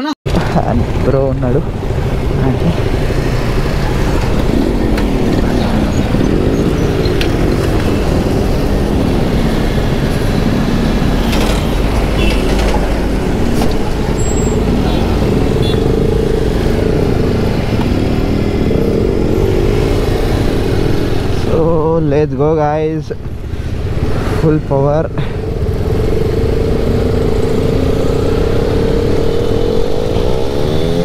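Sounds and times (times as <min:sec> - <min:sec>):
motorcycle engines revving: 0:00.3 - 0:31.0
traffic low rumble: 0:00.3 - 0:31.0.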